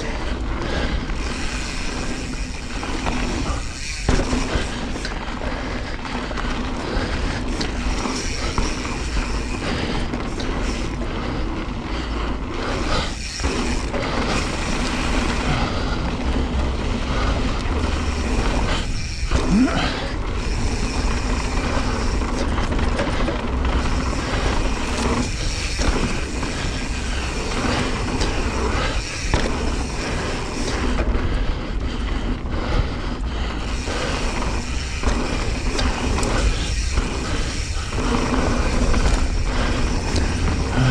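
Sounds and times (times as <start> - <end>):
bike tyres rolling over gravel: 0.0 - 40.9.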